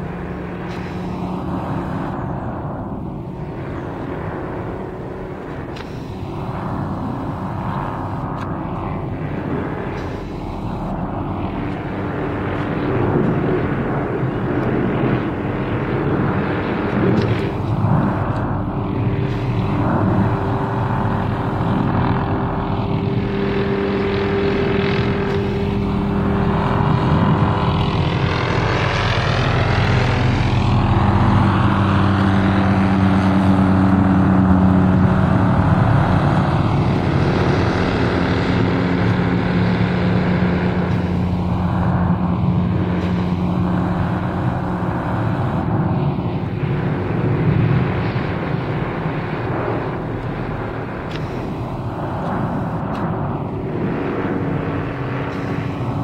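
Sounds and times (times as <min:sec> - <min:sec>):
helicopter flying overhead: 0:00.0 - 0:56.0.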